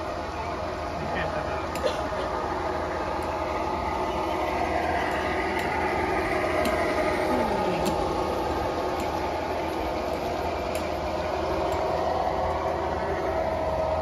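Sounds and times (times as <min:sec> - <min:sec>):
model train rumbling: 0:00.0 - 0:14.0
model train whine: 0:00.0 - 0:14.0.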